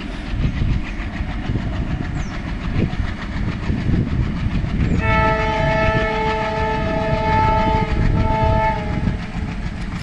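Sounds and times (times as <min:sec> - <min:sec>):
diesel locomotive rumble: 0:00.0 - 0:10.0.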